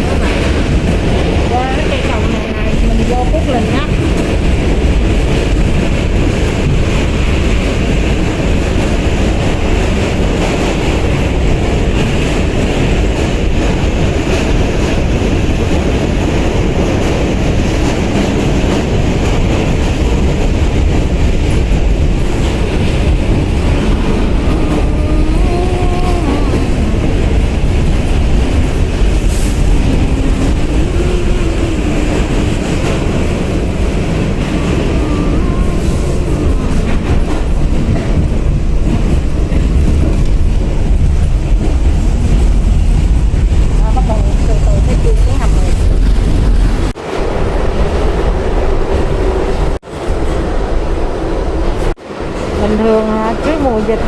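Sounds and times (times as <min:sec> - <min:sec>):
subway train wheels rumbling on track: 0:00.0 - 0:54.0.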